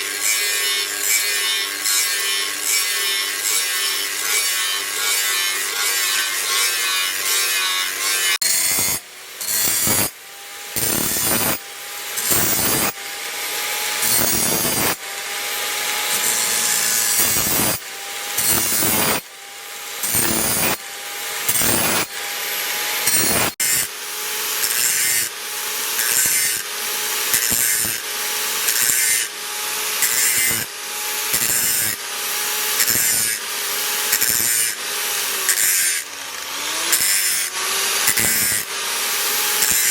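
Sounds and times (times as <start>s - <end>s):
hand tool rasping strokes: 0.0s - 39.9s.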